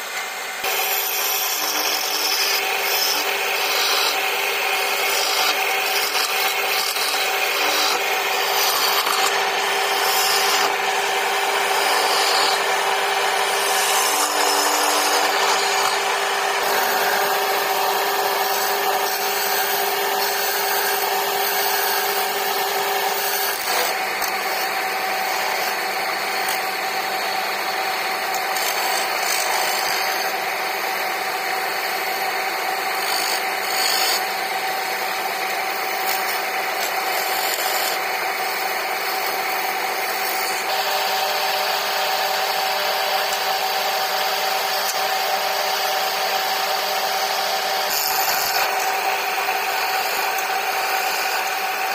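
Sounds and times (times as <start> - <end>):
wood lathe motor hum: 0.0 - 51.9
chisel rasping on spinning wood: 0.6 - 26.7, 28.0 - 30.5, 31.4 - 51.9.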